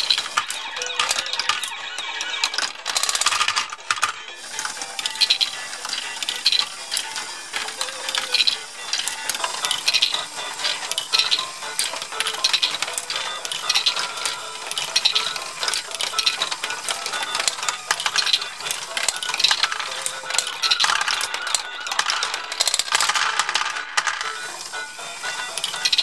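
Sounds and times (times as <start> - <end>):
chain lift and gears running: 0.0 - 26.0
plastic balls clicking and rattling: 0.0 - 26.0.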